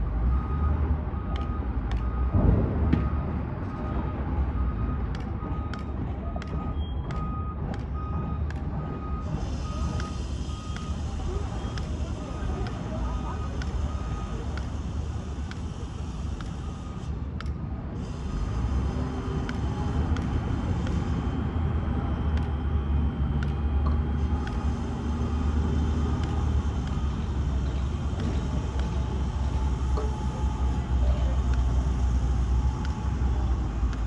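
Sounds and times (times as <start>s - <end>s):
urban background rumble: 0.0s - 34.0s.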